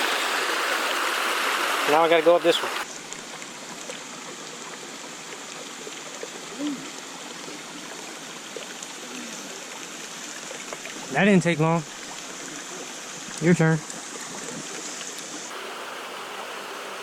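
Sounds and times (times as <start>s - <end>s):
small waterfall splashing over rock: 0.0s - 17.0s.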